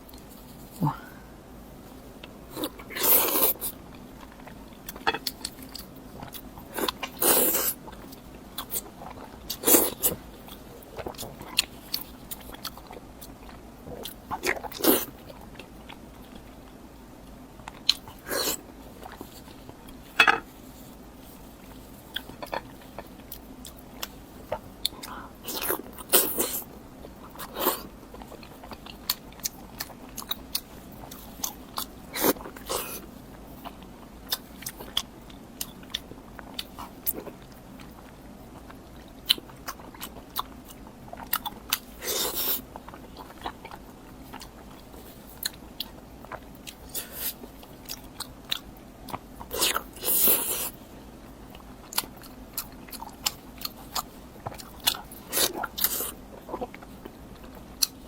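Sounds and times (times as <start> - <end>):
person chewing crunchy food: 2.2 - 16.8, 17.6 - 58.0.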